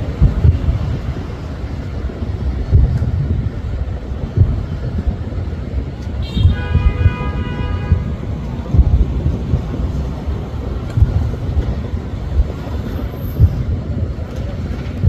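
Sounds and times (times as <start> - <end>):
distant fireworks booming: 0.0 - 15.0
steady low rumble: 0.0 - 15.0.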